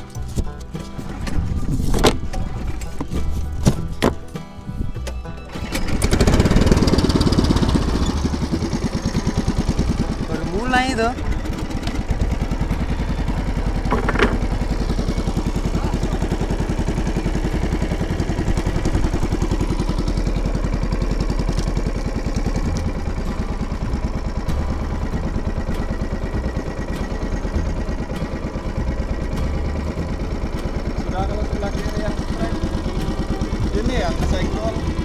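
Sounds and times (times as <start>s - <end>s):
boat engine puttering: 0.0s - 35.0s.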